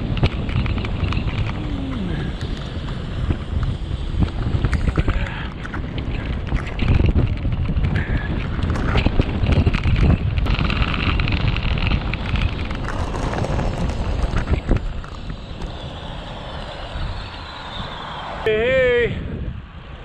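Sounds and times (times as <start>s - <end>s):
bike tyres humming on asphalt: 0.0s - 20.0s
wind buffeting microphone: 0.0s - 20.0s.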